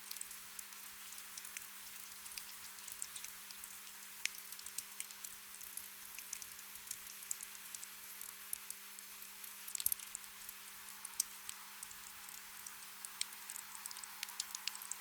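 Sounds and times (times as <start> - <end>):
gentle rain hiss: 0.0 - 15.0
raindrops ticking nearby: 0.0 - 15.0.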